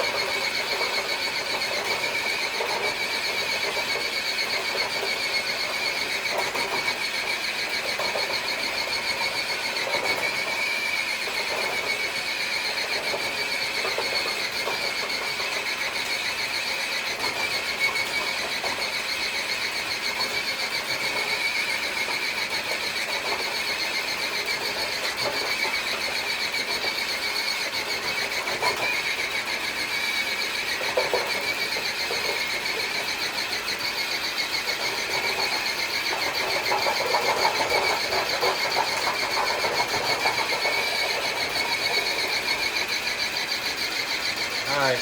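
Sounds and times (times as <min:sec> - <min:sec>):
electric motor and gears whining: 0:00.0 - 0:45.0.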